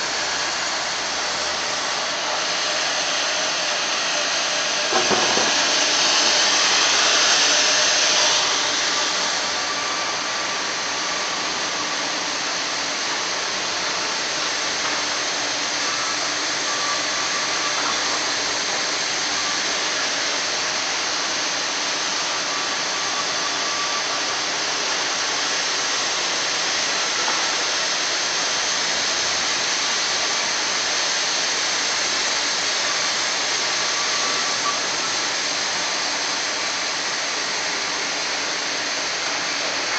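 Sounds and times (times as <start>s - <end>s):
sawmill bandsaw running: 0.0s - 39.9s.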